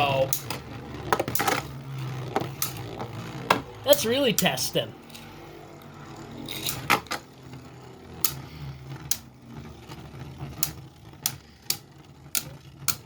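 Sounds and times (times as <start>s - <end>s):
low whir: 0.0s - 13.0s.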